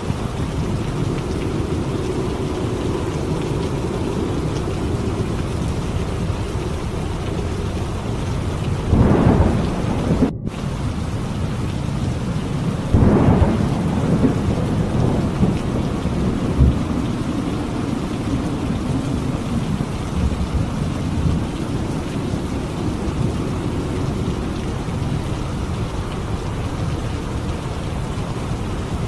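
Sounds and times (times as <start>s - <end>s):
heavy rain: 0.0s - 29.0s
rolling thunder: 0.0s - 29.0s.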